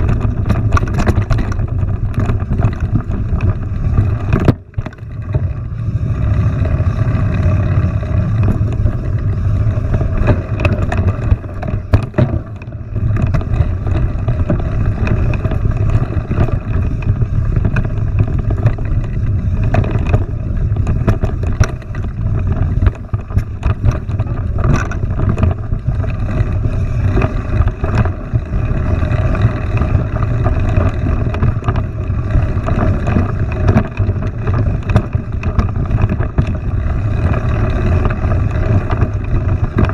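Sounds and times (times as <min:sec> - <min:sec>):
small clicks and knocks: 0:00.0 - 0:05.6, 0:06.6 - 0:39.9
wind buffeting microphone: 0:00.0 - 0:39.9.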